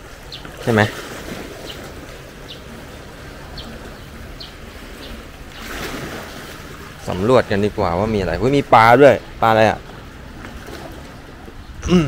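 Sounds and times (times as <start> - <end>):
sea water washing: 0.0 - 12.0
wind buffeting microphone: 0.0 - 12.0.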